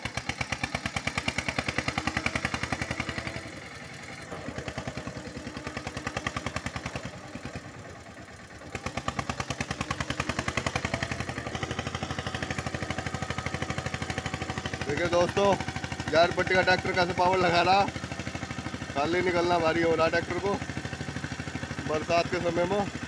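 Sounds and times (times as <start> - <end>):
tractor diesel engine chugging: 0.0 - 23.0.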